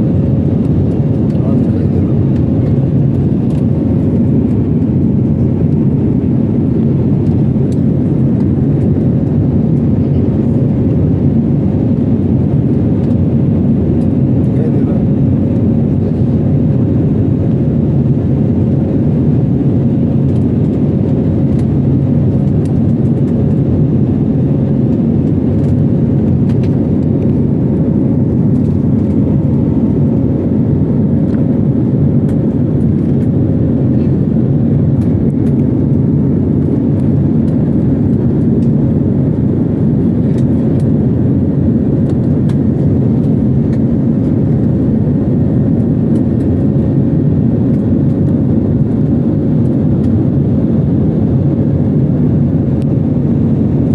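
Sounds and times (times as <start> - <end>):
airliner engines droning: 0.0 - 53.9.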